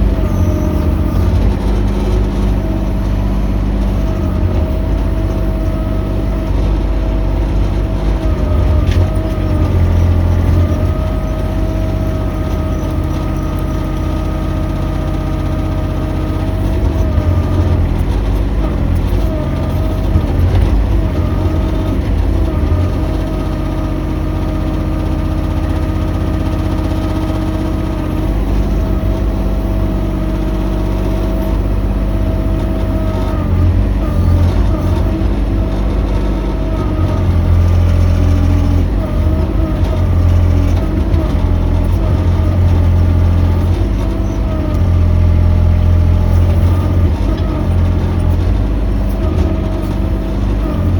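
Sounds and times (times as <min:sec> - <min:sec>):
excavator engine running: 0:00.0 - 0:50.9.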